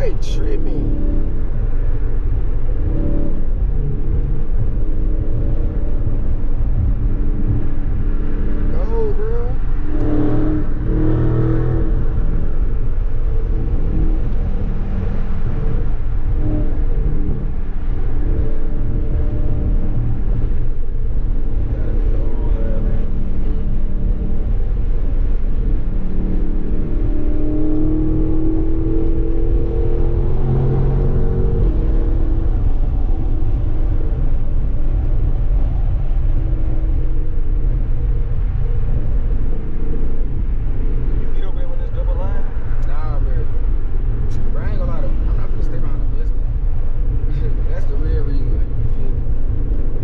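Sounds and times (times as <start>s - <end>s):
car engine rumble: 0.0s - 50.0s
road noise inside car: 0.0s - 50.0s.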